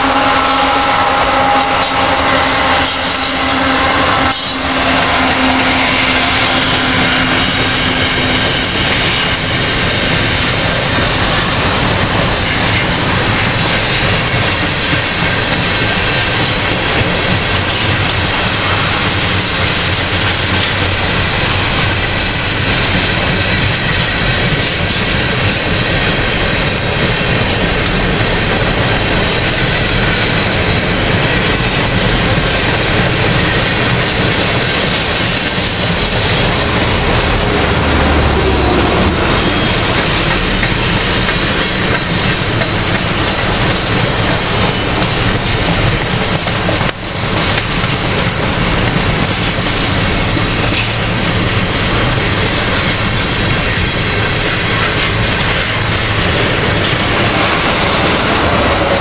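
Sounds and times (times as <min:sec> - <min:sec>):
diesel locomotive engine hum: 0:00.0 - 0:59.0
steel wheels rolling on rail: 0:00.0 - 0:59.0.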